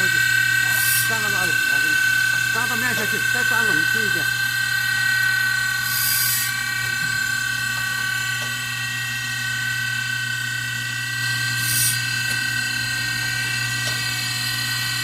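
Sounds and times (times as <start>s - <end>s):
sharpening machine motor whine: 0.0s - 15.0s.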